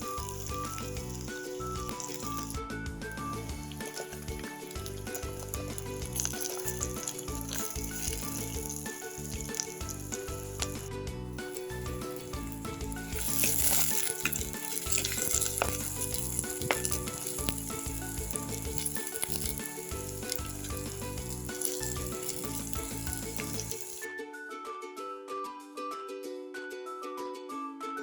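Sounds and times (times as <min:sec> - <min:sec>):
food sizzling in hot oil: 0:00.0 - 0:24.1.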